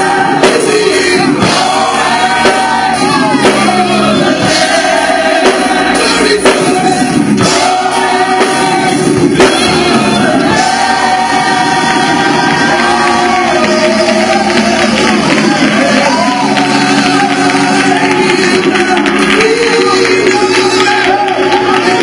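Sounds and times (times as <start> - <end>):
band drums: 0.0 - 22.0
gospel choir singing: 0.0 - 22.0.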